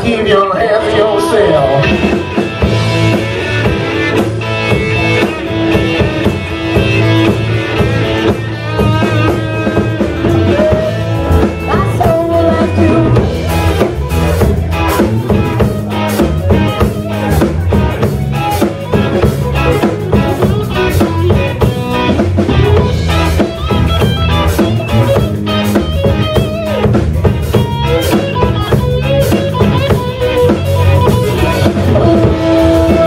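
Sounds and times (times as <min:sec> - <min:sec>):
electric guitar: 0:00.0 - 0:33.0
rock band playing: 0:00.0 - 0:33.0
drum kit steady beat: 0:01.6 - 0:33.0.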